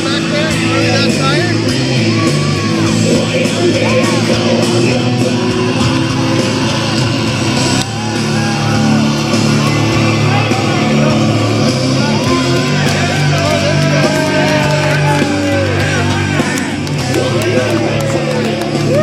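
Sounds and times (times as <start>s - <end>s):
loud rock music: 0.0s - 19.0s.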